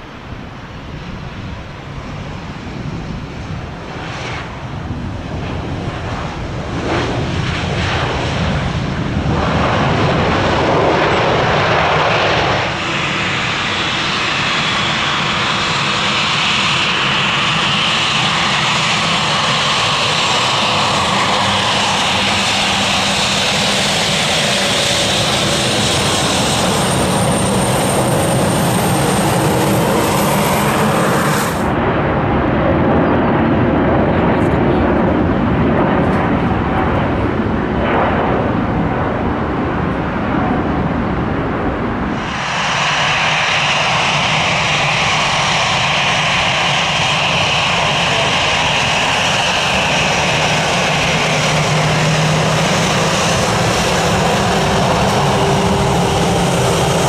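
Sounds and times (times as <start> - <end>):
jet airliner engine roar: 0.0 - 57.0.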